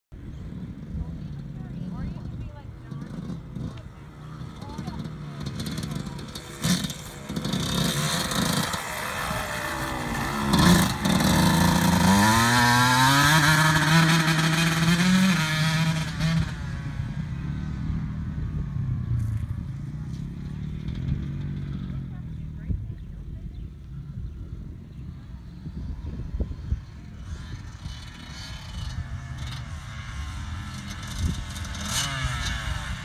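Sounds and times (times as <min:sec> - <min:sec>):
dirt bike engine revving: 0:01.4 - 0:22.2, 0:25.7 - 0:33.0.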